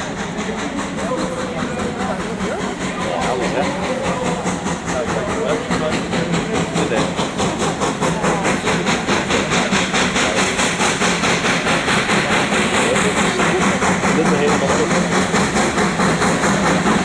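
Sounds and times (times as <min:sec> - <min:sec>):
steam locomotive exhaust chuffing: 0:00.0 - 0:17.0.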